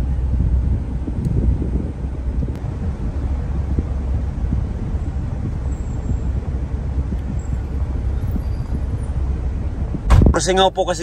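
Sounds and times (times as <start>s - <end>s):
air conditioning air rushing: 0.0s - 11.0s
engine idling hum: 0.0s - 11.0s.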